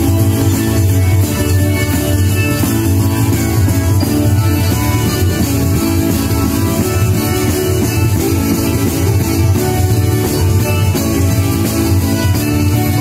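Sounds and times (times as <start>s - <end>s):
folk music on acoustic guitars: 0.0s - 13.0s.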